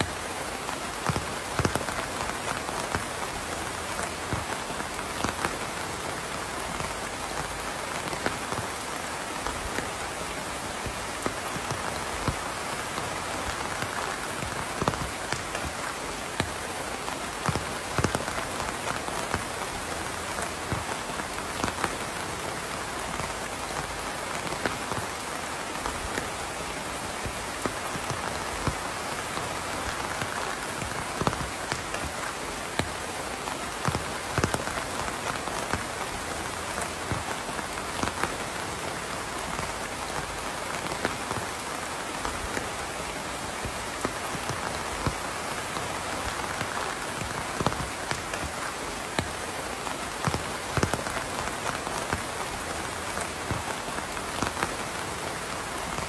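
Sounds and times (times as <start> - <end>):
raindrops ticking: 0.0 - 56.0
steady rain: 0.0 - 56.0.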